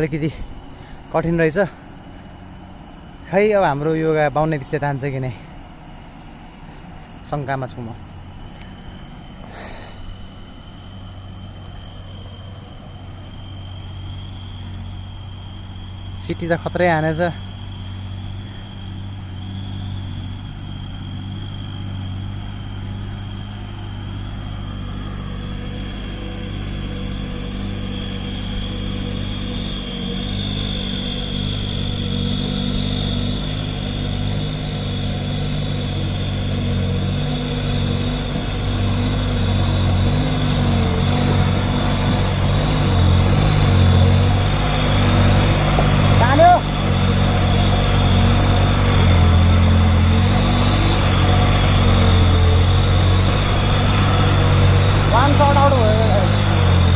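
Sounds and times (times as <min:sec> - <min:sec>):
truck diesel engine labouring: 0:00.0 - 0:56.9.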